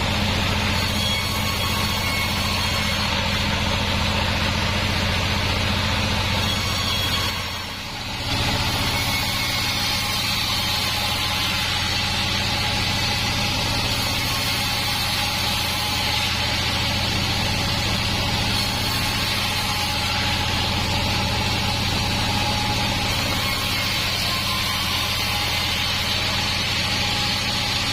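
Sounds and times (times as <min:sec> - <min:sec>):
band sawmill running: 0:00.0 - 0:27.9.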